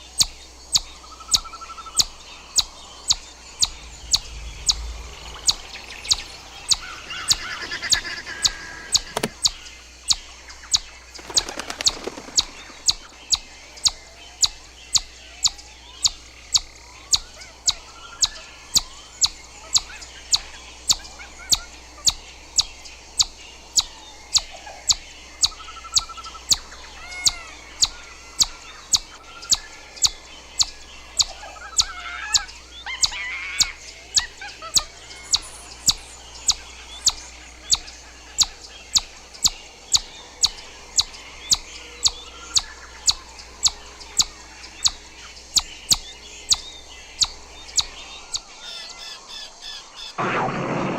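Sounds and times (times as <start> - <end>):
birds singing faintly: 0.0 - 50.2
chipmunk chipping: 0.2 - 49.4.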